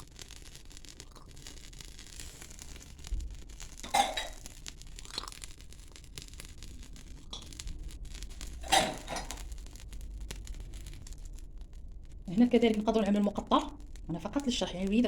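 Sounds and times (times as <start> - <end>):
suction cups on skin: 0.0 - 15.0.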